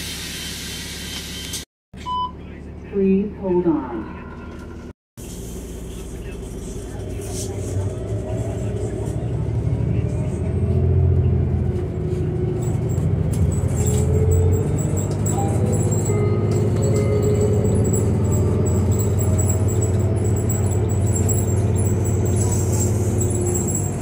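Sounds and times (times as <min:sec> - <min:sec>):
bus interior low drone: 0:02.2 - 0:24.0.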